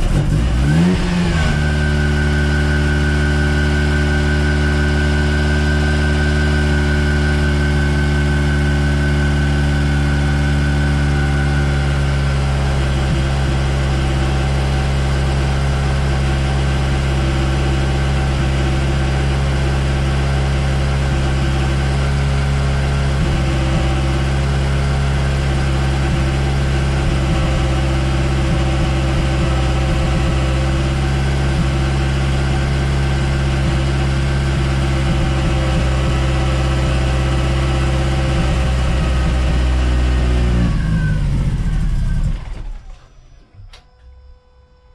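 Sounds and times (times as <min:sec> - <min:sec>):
car engine idling: 0:00.0 - 0:43.4
engine winding down: 0:00.0 - 0:44.7.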